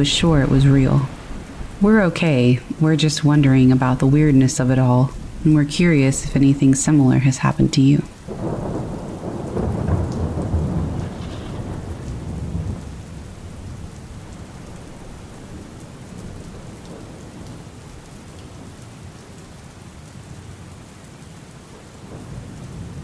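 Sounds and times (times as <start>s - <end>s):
thunder rumbling: 0.0s - 18.8s
steady rain: 0.0s - 23.0s.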